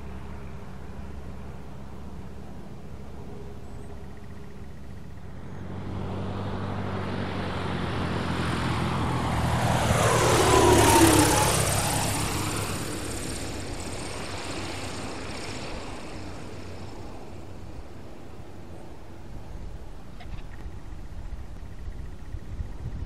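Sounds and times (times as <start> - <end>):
propeller airplane passing: 0.0 - 23.0.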